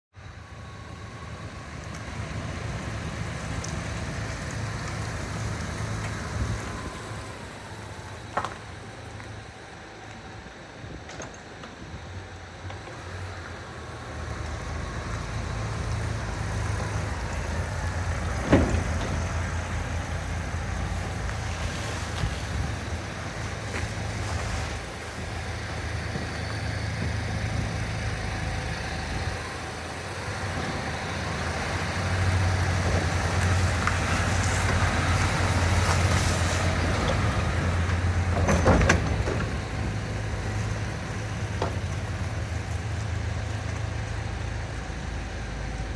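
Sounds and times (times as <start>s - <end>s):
diesel engine idling: 0.1s - 45.9s.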